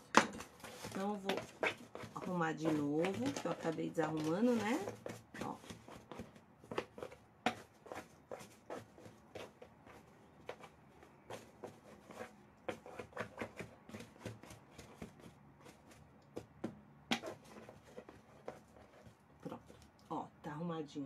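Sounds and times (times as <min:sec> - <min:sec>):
fabric rustling and tapping in box: 0:00.0 - 0:19.8.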